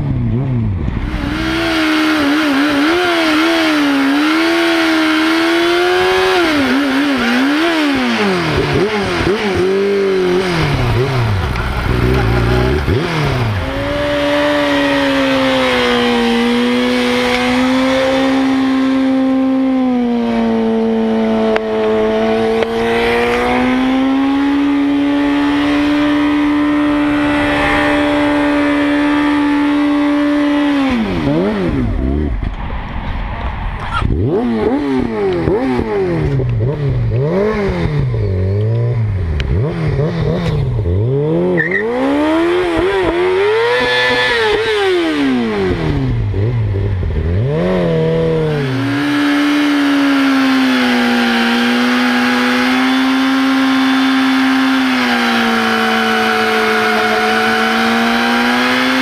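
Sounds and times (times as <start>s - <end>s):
motorcycle engine revving hard: 0.0s - 32.4s, 33.9s - 59.0s.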